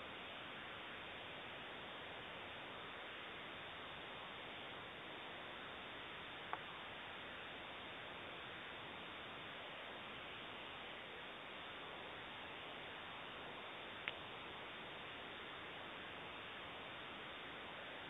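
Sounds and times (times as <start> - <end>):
recording hiss: 0.0 - 18.0.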